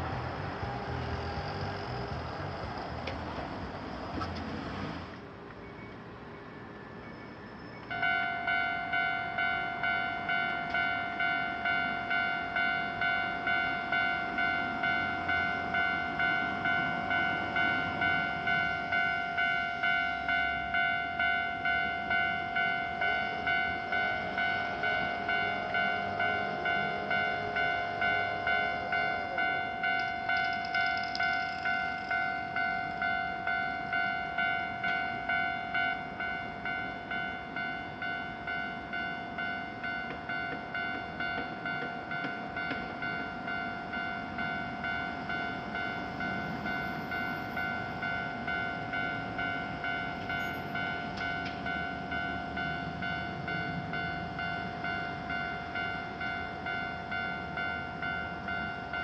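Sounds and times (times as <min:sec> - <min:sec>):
electric train passing: 0:00.0 - 0:59.0
level crossing warning bell: 0:06.9 - 0:59.0.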